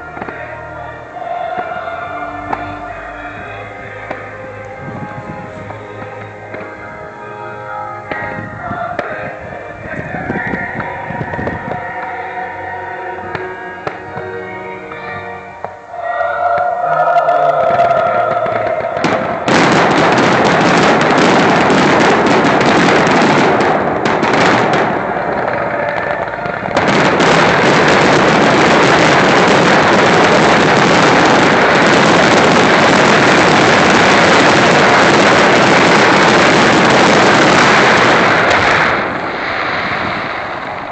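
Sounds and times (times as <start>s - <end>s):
show music with held tones: 0.0s - 39.0s
fireworks bangs and crackling: 0.0s - 40.9s.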